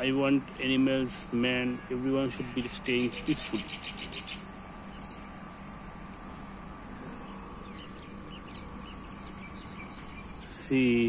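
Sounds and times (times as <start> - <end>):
steady background hum: 0.0 - 11.0
faint bird chirps: 1.6 - 11.0.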